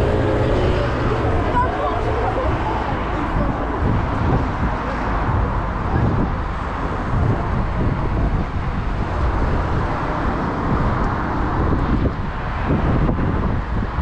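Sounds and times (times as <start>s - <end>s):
steady road traffic: 0.0s - 14.0s.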